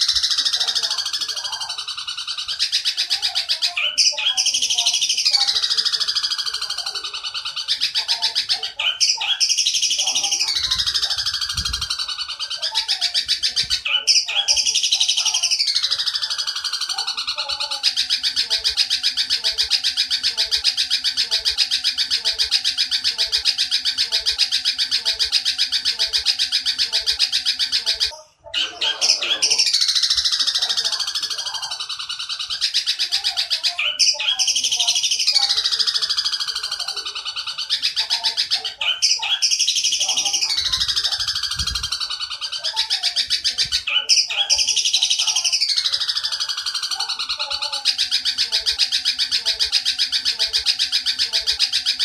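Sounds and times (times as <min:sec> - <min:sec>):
sparrow buzzing chatter: 0:00.0 - 0:52.0.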